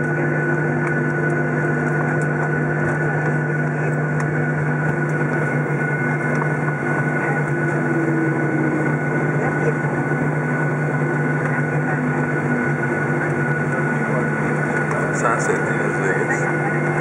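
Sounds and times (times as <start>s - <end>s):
jet engines idling hum and whine: 0.0s - 17.0s.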